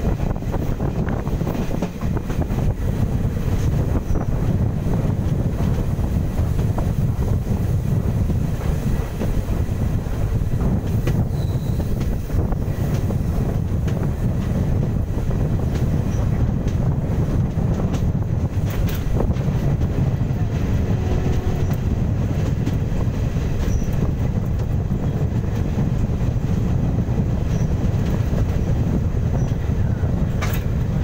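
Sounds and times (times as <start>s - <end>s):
train wheels rumbling on rails: 0.0s - 31.0s
wind rushing on microphone: 0.0s - 31.0s.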